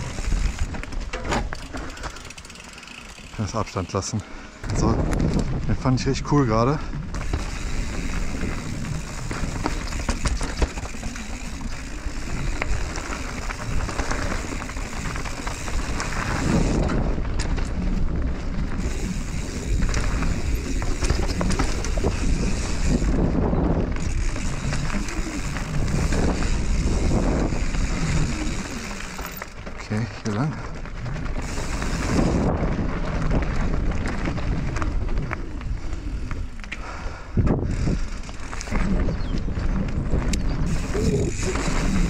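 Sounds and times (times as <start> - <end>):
wind rushing over microphone: 0.0 - 1.1, 4.6 - 29.4, 30.1 - 42.0
bike rattling and clicking: 0.0 - 42.0
tyres rumbling on dirt trail: 0.0 - 42.0.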